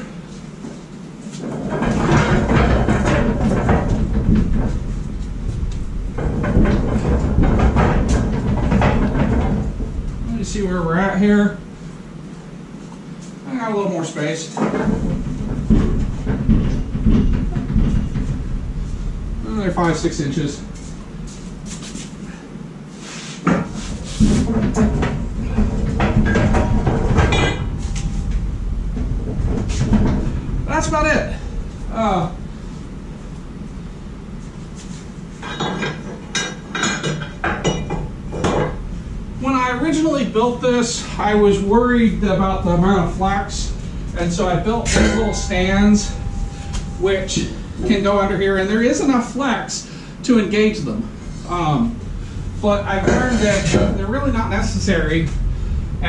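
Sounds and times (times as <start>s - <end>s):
casters rumbling on concrete: 1.4s - 12.2s, 14.6s - 21.3s, 23.5s - 34.4s, 35.4s - 49.7s, 52.0s - 55.6s.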